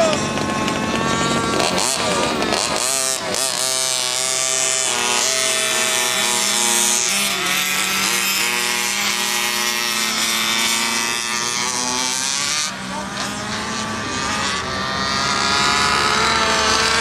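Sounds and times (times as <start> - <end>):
model car engines buzzing: 0.0 - 17.0.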